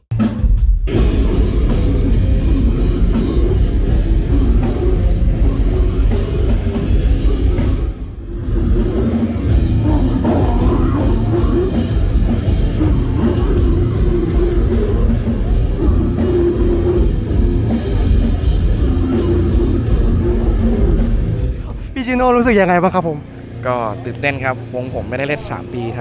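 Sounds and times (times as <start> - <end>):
death metal band playing live: 0.1 - 26.0.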